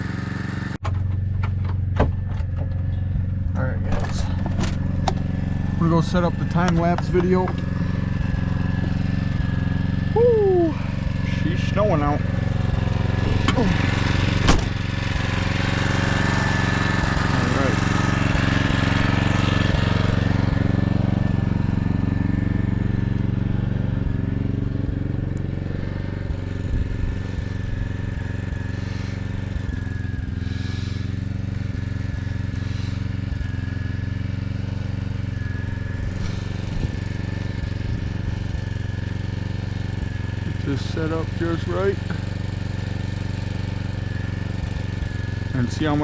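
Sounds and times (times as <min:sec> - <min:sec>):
generator engine running: 0:00.0 - 0:46.0.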